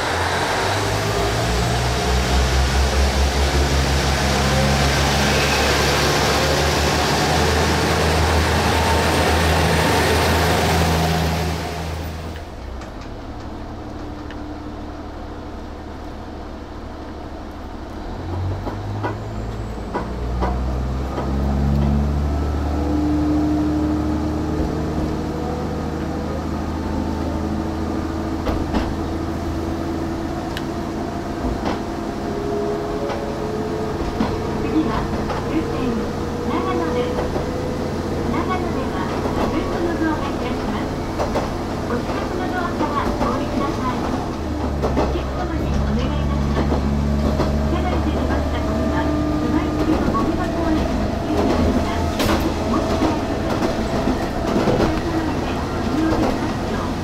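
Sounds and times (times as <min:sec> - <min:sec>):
diesel railcar engine hum: 0:00.0 - 0:57.0.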